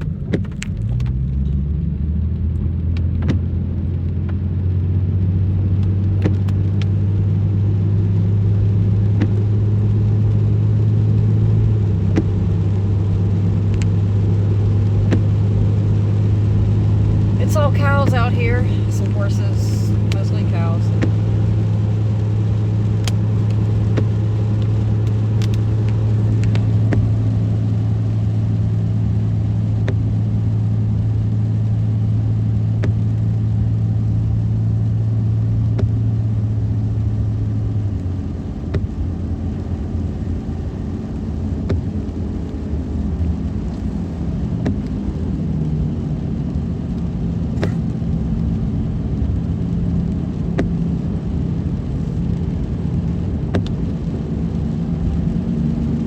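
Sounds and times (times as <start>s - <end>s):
car engine and tyres droning: 0.0s - 56.0s.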